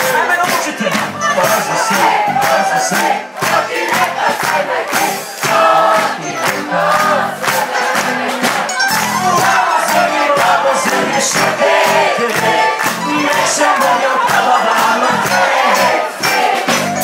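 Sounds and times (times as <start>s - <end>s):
crowd cheering: 0.0s - 17.0s
crowd singing along: 0.0s - 17.0s
live pop band playing: 0.0s - 17.0s.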